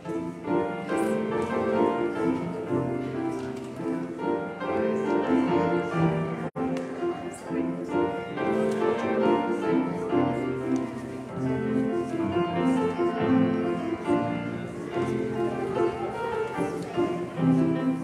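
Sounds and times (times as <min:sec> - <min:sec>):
slow keyboard music: 0:00.0 - 0:18.0.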